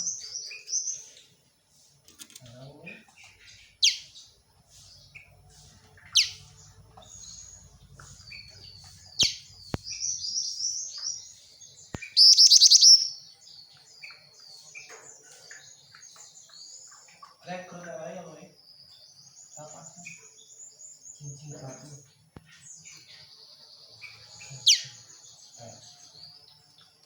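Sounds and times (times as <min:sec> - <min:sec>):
bird chirping: 0:00.0 - 0:27.0.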